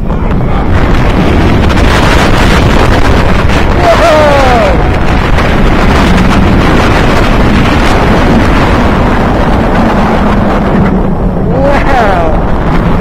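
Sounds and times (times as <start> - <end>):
roller coaster rumbling on track: 0.0 - 13.0
wind blasting microphone: 0.0 - 13.0.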